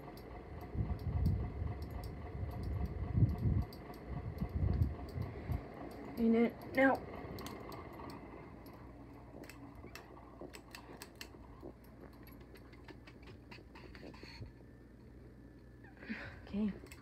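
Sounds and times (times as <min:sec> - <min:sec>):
light clicks and ticks: 0:00.0 - 0:08.8, 0:09.4 - 0:14.4, 0:16.8 - 0:17.0
ceiling fan humming: 0:00.0 - 0:17.0.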